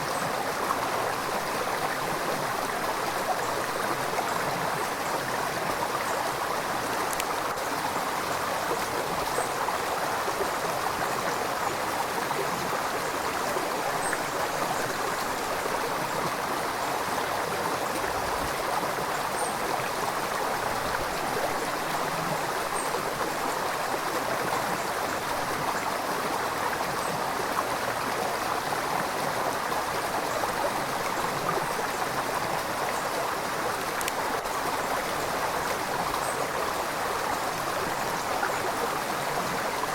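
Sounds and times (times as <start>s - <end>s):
river water babbling over rocks: 0.0s - 39.9s.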